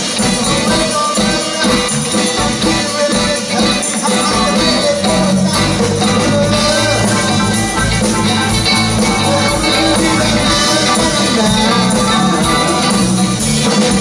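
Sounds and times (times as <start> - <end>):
band playing rock song: 0.0 - 14.0.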